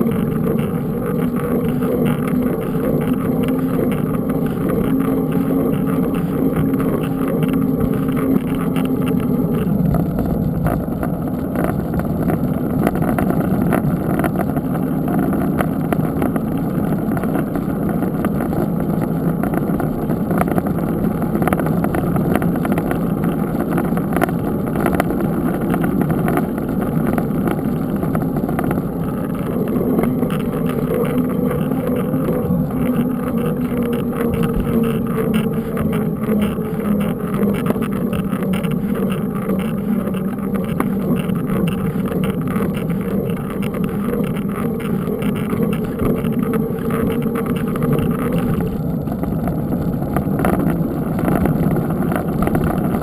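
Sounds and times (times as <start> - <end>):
bike tyres rolling: 0.0 - 53.0
low hum: 0.0 - 53.0
wind buffeting microphone: 0.0 - 53.0.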